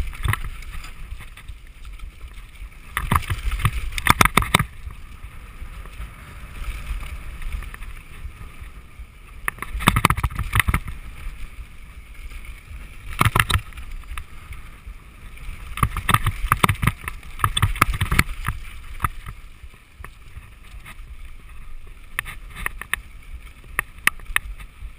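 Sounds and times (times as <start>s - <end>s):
bike rattling over bumps: 0.0s - 24.9s
tyres rolling on dirt: 0.0s - 24.9s
wind on microphone: 0.0s - 24.9s.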